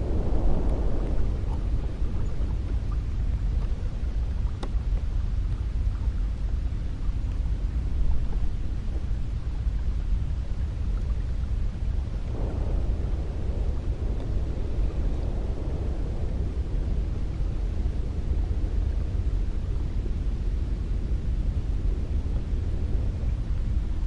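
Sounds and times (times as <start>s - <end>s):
cold wind blowing: 0.0s - 24.0s.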